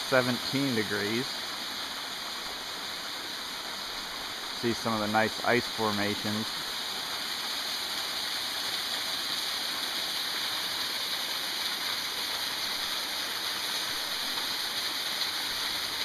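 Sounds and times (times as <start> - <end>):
waterfall splashing: 0.0 - 16.0.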